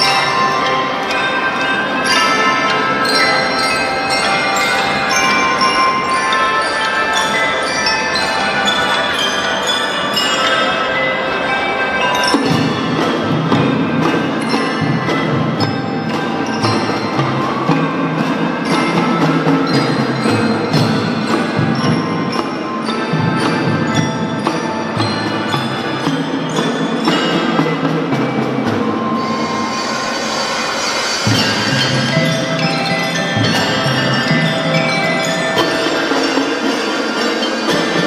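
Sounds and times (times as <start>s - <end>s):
mallet instruments melody: 0.0s - 38.0s.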